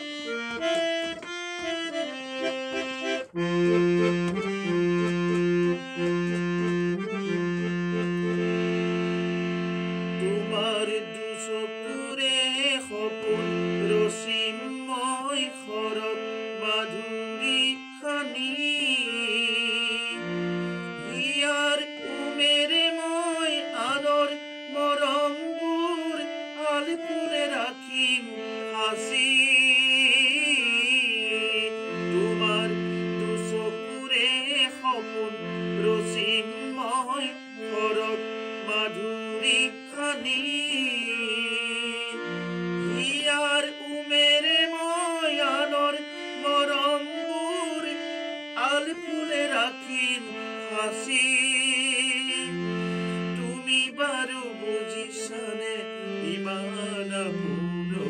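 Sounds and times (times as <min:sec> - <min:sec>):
harmonium chords: 0:00.0 - 0:58.0
man singing with vibrato: 0:00.0 - 0:58.0.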